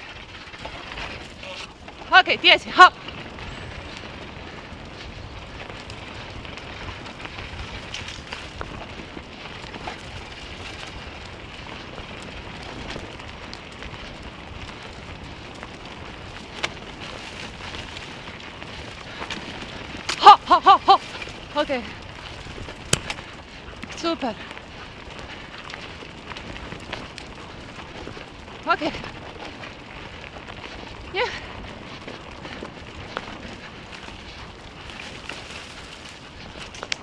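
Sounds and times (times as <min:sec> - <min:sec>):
scooter wheels rolling on dirt: 0:00.0 - 0:37.0.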